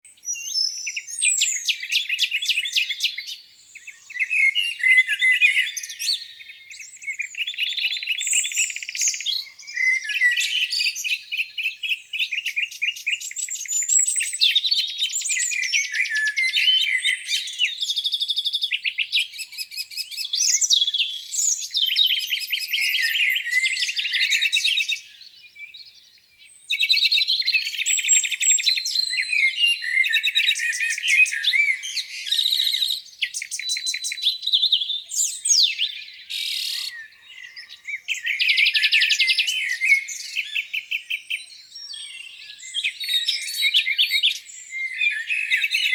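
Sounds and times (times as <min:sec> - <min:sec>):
songbirds singing: 0:00.0 - 0:45.9.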